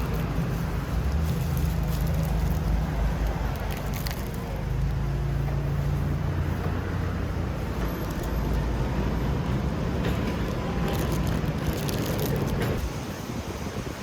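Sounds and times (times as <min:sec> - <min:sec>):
vehicle running with low rumble: 0:00.0 - 0:14.0.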